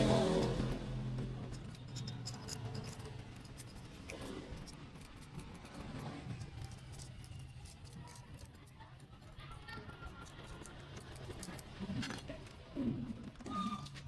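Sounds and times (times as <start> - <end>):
clicks and scraping on engine parts: 0.0 - 14.0.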